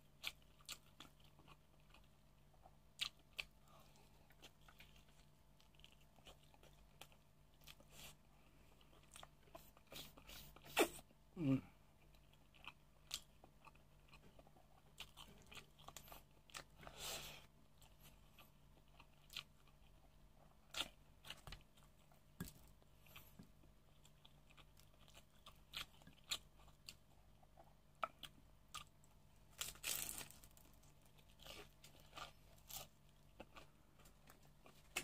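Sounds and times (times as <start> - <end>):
crunching and chewing: 0.0 - 11.1, 11.9 - 35.0.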